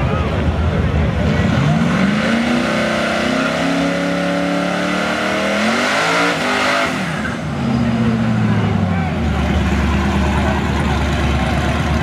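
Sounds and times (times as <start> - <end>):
truck engine revving: 0.2 - 12.0.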